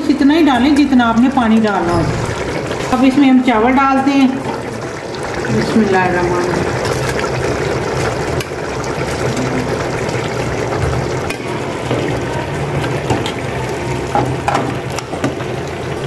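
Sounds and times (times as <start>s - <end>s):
syrup bubbling in a pot: 0.0s - 16.0s.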